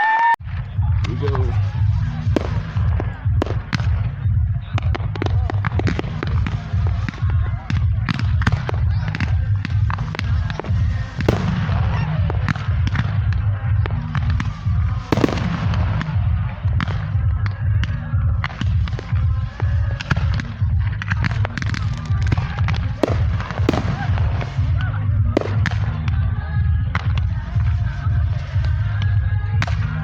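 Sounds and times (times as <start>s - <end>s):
fireworks bangs and crackles: 0.4s - 30.0s
low rumble: 0.4s - 30.0s.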